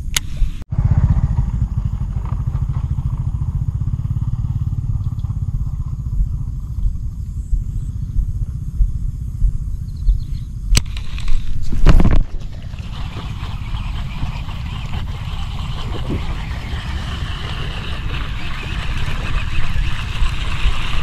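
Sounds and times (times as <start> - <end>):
small motorcycle engine running: 0.6 - 21.0.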